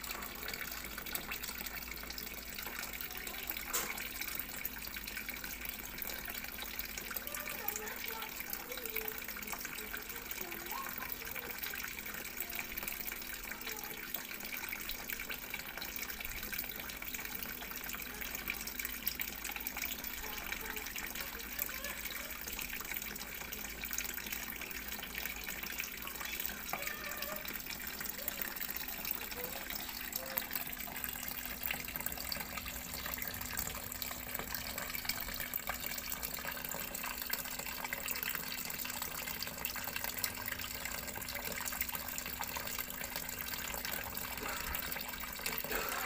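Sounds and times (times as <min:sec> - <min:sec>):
water stream splashing into pond: 0:00.0 - 0:46.0.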